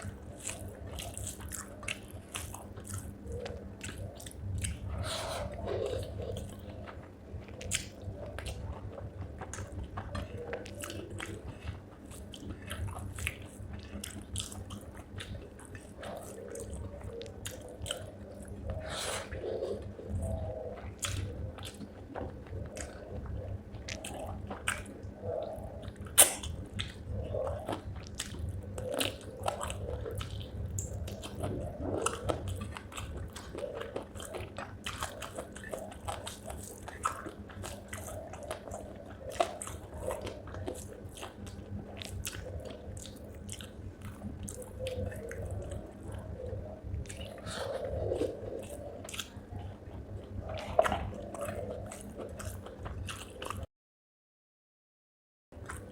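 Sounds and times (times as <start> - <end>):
chewing and crunching bones: 0.0 - 53.7, 55.6 - 55.9.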